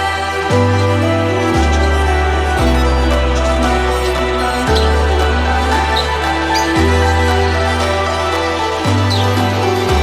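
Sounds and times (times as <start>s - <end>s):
deep bass line: 0.5s - 10.0s
sustained synth chords: 0.5s - 10.0s.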